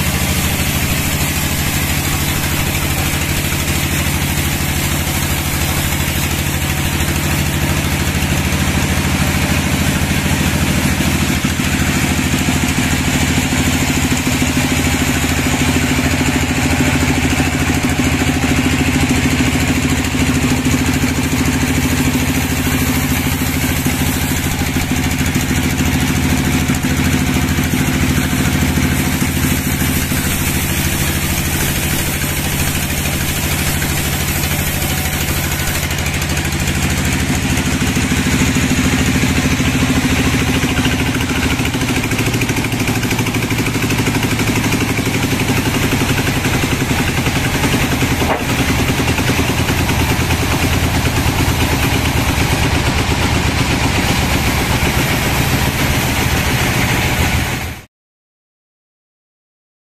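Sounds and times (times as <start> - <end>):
sawmill machinery humming: 0.0 - 57.8.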